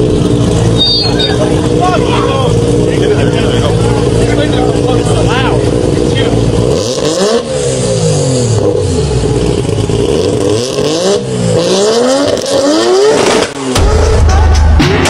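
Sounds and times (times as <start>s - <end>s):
rotary engine revving: 0.0s - 15.0s.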